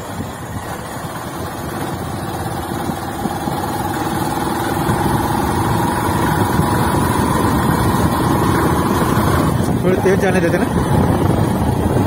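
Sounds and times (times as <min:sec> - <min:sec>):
motorbike engine running: 0:00.0 - 0:12.0
road rumble: 0:00.0 - 0:12.0.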